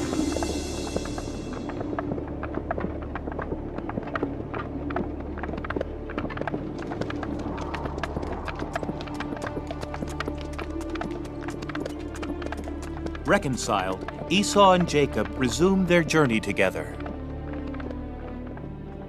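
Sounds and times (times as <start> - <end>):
background music low tones: 0.0 - 19.0
hooves clip-clopping: 0.0 - 19.0.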